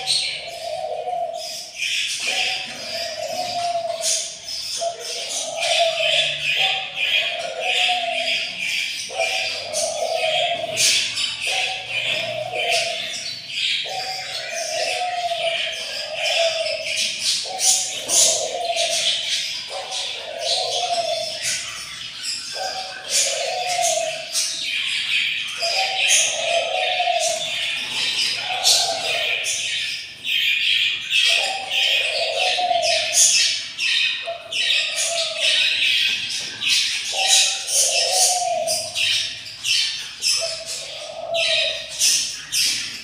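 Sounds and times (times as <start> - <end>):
chicks chirping: 0.0 - 43.0.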